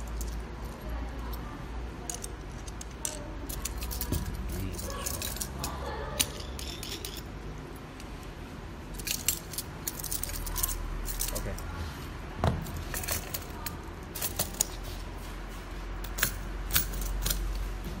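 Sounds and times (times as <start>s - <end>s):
metal parts clicking and clinking: 0.0s - 11.8s, 12.5s - 15.0s, 16.0s - 17.8s.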